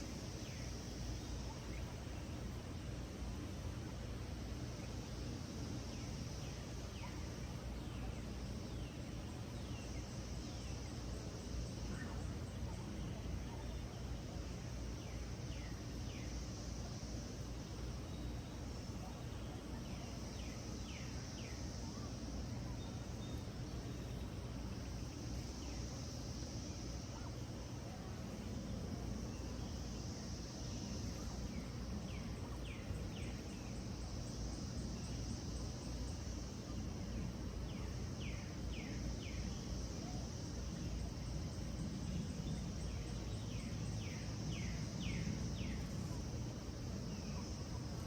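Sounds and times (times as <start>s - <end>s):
high insect trill: 0.0s - 48.0s.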